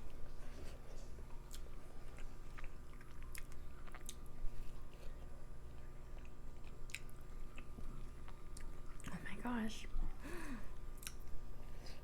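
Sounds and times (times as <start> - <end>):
person chewing food: 0.0 - 9.1, 10.8 - 12.0.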